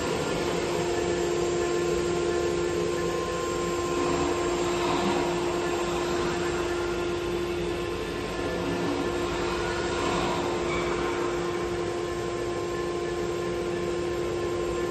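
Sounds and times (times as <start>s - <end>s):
machine noise: 0.0s - 14.9s
router spindle whine: 0.0s - 14.9s.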